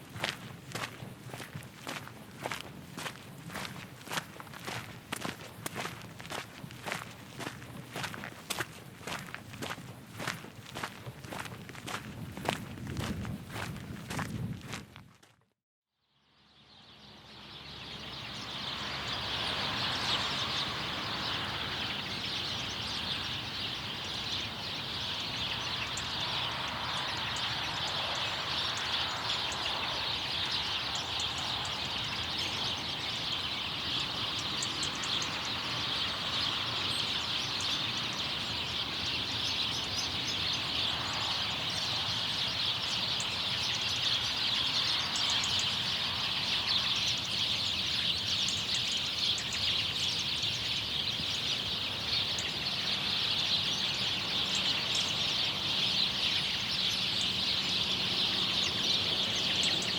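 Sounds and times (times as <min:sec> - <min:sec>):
chorus of small birds chirping: 0:00.0 - 0:14.8, 0:16.4 - 0:59.9.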